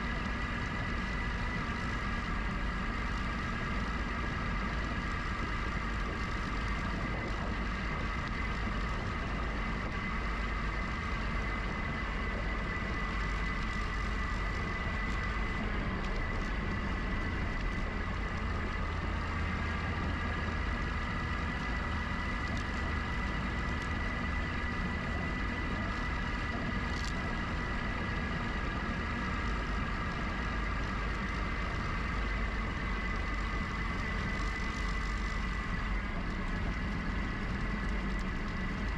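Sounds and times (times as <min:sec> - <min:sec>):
rolling road noise: 0:00.0 - 0:38.9
wind rumble: 0:00.0 - 0:38.9.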